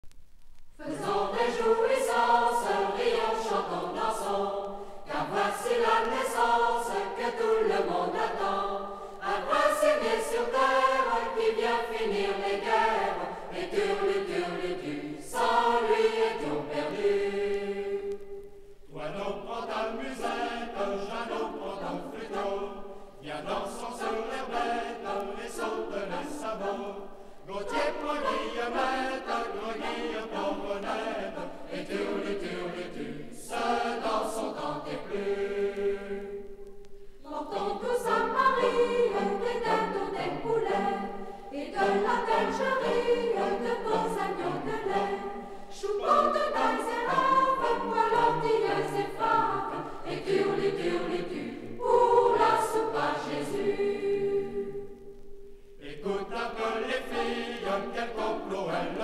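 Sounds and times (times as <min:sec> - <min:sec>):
choir singing a carol: 0:00.8 - 0:59.0.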